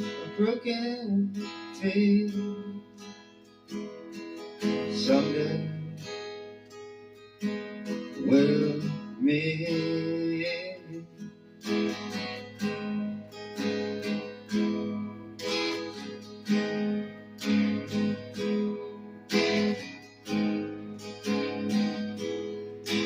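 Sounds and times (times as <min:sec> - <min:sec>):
guitar strumming: 0:00.0 - 0:23.0.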